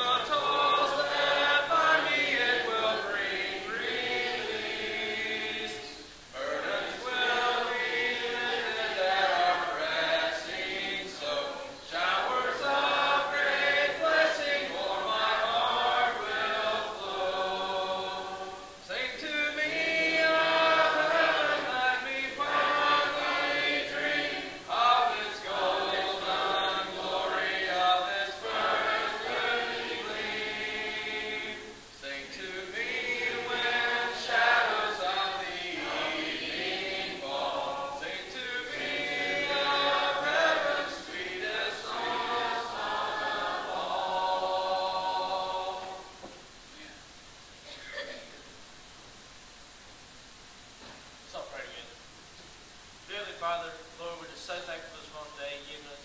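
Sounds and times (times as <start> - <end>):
congregation singing a cappella: 0.0 - 46.6.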